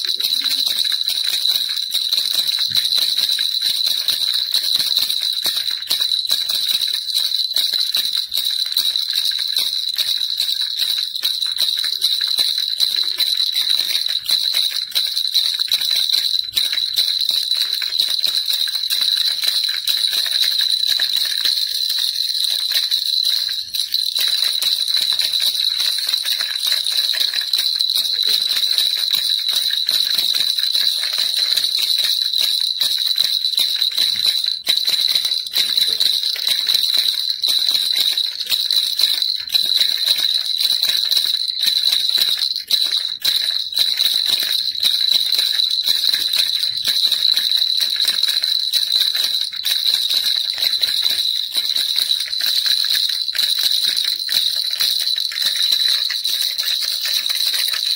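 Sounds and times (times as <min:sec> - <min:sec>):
baby rattle jingling: 0:00.0 - 0:57.9.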